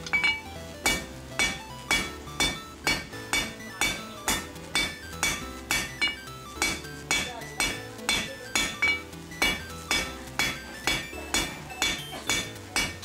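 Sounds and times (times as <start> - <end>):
background music: 0.0 - 13.0
hammer striking steel on anvil: 0.0 - 13.0.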